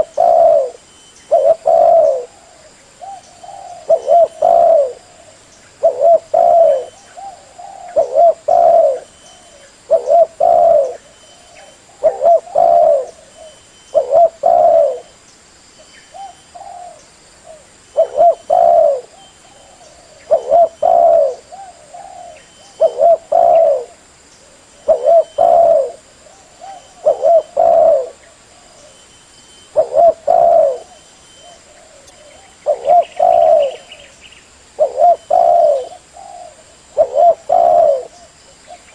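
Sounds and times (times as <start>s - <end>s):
dove cooing: 0.0s - 15.2s, 16.1s - 29.0s, 29.7s - 38.9s.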